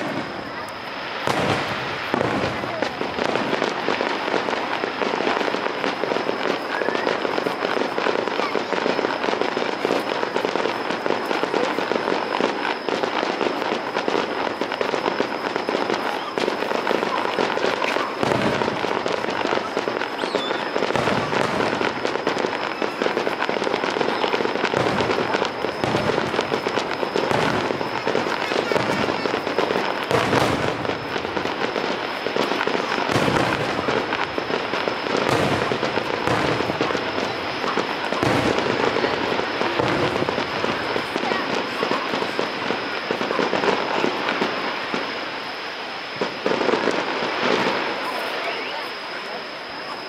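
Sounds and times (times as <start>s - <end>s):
fireworks booms: 0.0s - 50.0s
fireworks crackling and popping: 0.0s - 50.0s
thin high whine: 3.5s - 50.0s.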